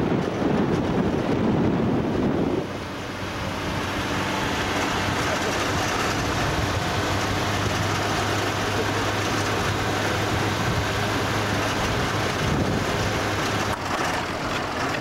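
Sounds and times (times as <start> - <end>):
steady rushing noise: 0.0 - 15.0
vehicle engine hum: 0.0 - 15.0.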